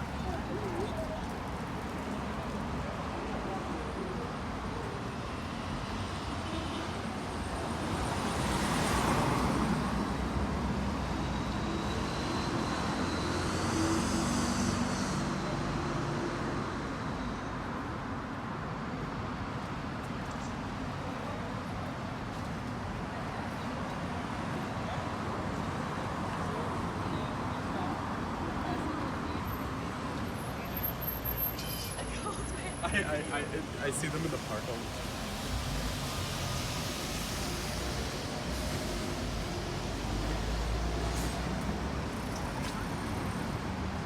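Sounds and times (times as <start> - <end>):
city street traffic: 0.0 - 44.0.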